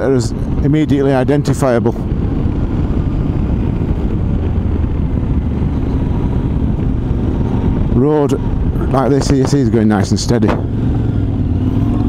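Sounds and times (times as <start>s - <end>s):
motorcycle engine rumble: 0.0s - 12.0s
wind noise: 0.0s - 12.0s.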